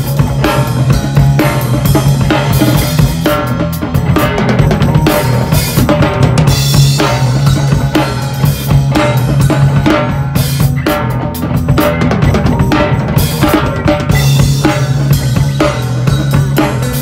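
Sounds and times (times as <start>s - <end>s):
electric guitar chords: 0.0s - 17.0s
rock drum kit played fast: 0.0s - 17.0s.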